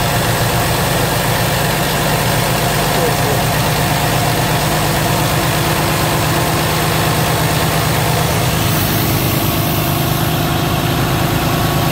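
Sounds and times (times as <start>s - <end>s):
diesel truck engine idling: 0.0s - 11.9s.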